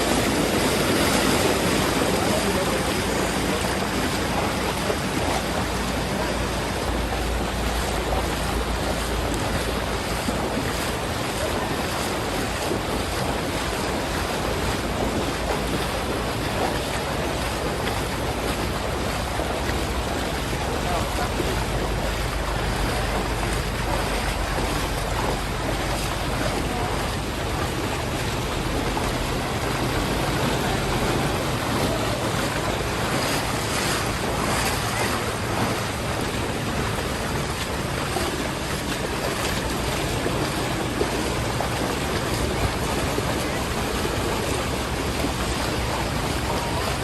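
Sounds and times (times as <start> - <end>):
floodwater rushing: 0.0 - 47.0
low steady hum: 0.0 - 47.0.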